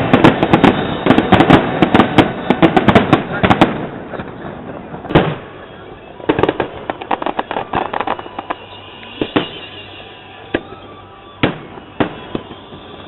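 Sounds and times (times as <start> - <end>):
fireworks crackling pops: 0.0 - 13.0
fireworks sharp bangs: 0.0 - 13.0.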